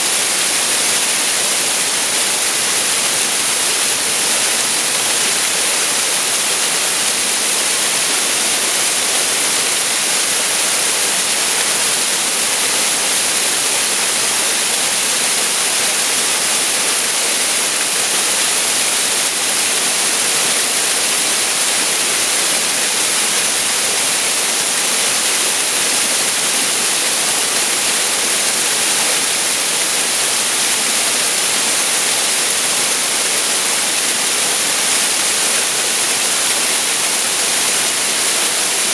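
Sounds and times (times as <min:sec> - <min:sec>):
waterfall pouring: 0:00.0 - 0:38.9.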